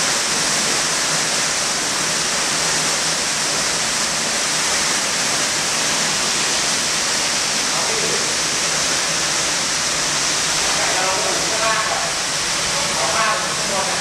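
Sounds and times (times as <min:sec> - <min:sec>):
water gushing onto standing water: 0:00.0 - 0:14.0.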